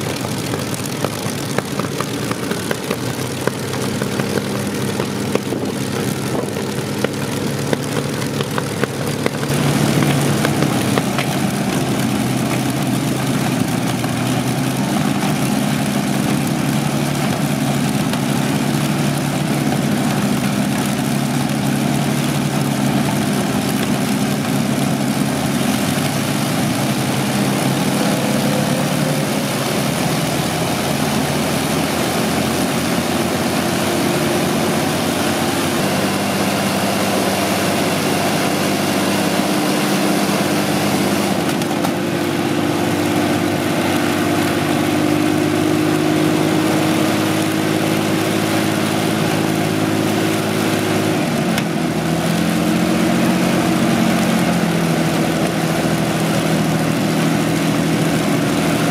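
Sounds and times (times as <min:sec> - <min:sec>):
aero engines running: 0:00.0 - 0:58.9.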